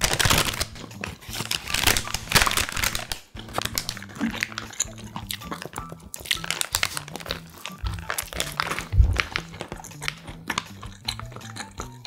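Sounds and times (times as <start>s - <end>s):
paper wrapper crinkling: 0.0s - 10.8s
toast crunching when chewed: 0.0s - 12.0s.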